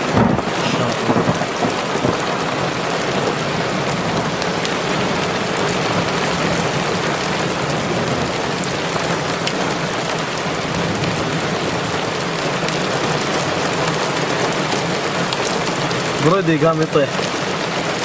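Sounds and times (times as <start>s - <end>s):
heavy rain on vehicle roof: 0.0s - 18.0s
raindrops ticking: 0.0s - 18.0s.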